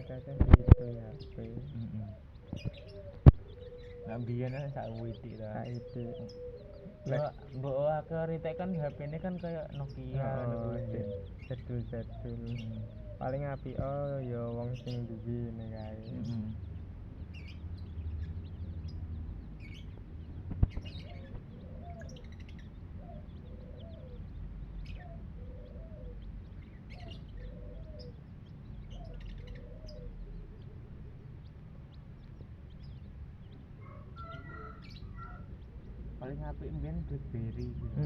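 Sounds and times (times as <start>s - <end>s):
bird repeating low call: 0.0s - 17.5s, 20.8s - 31.7s, 32.8s - 38.0s
steady low rumble: 0.0s - 34.2s, 34.8s - 38.0s
small birds chirping: 0.0s - 38.0s.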